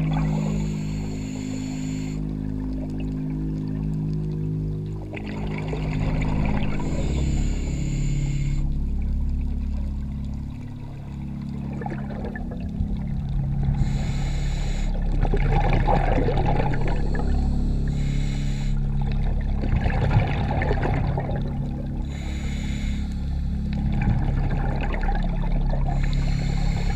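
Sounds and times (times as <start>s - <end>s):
crackling bubbles: 0.0s - 26.9s
steady low drone: 0.0s - 26.9s
underwater exhaust bubbles rushing: 0.0s - 26.9s.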